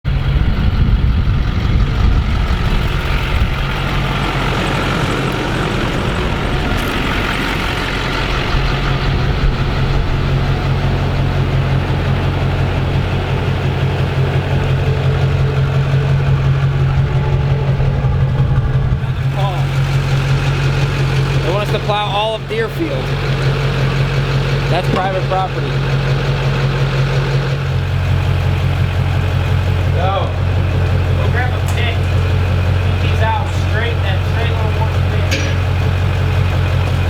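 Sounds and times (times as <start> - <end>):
road or wind noise: 0.0 - 37.0
truck engine humming: 0.0 - 37.0.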